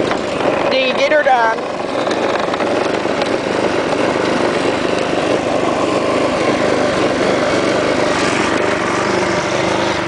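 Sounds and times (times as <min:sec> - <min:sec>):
lawnmower engine running: 0:00.0 - 0:10.0.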